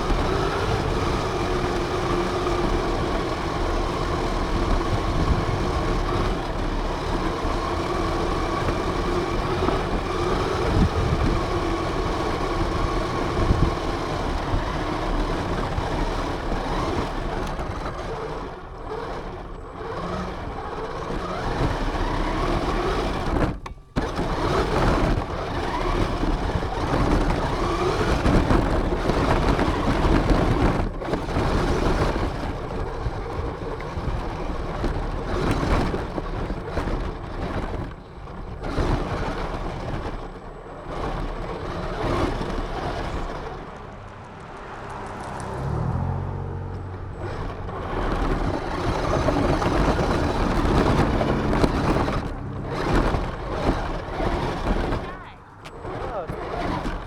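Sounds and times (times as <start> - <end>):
toy car motor whirring: 0.0 - 44.2, 46.7 - 57.0
rough rumbling noise: 0.0 - 57.0.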